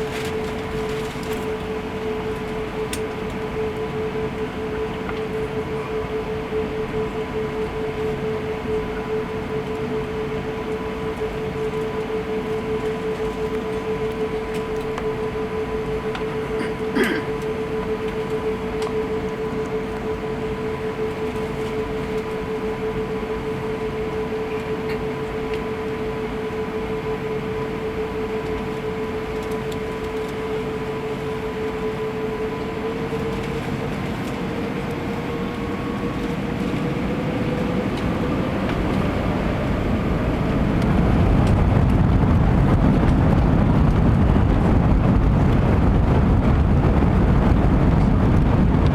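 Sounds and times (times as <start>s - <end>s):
jet engine whine: 0.0s - 48.9s
low engine rumble: 0.0s - 48.9s.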